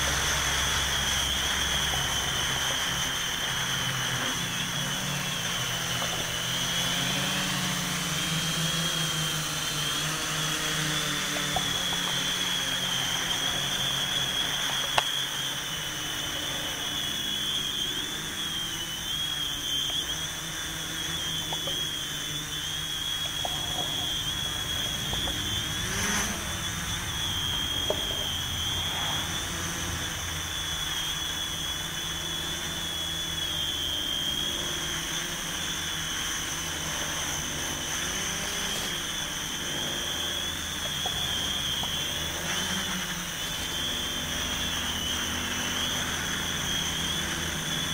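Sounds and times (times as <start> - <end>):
drone motors and propellers whining: 0.0 - 47.9.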